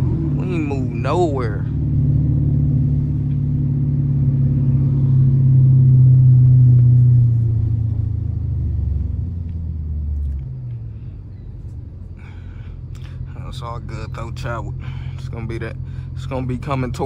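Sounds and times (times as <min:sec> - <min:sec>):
vee eight exhaust rumbling: 0:00.0 - 0:17.0.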